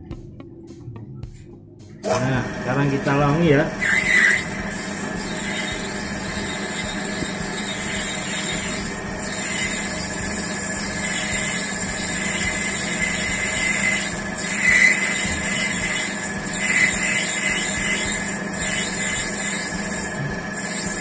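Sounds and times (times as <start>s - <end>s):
metal lathe cutting whine: 2.0s - 21.0s.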